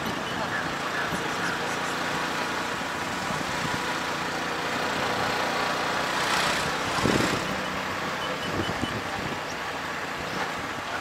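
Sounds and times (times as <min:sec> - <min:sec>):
auto-rickshaw engine running: 0:00.0 - 0:11.0.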